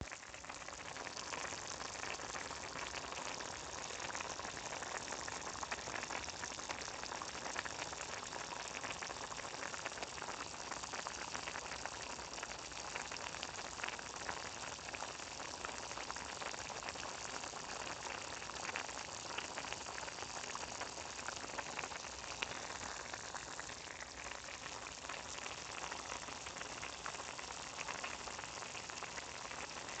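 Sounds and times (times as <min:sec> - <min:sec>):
pot boiling: 0:00.0 - 0:30.0.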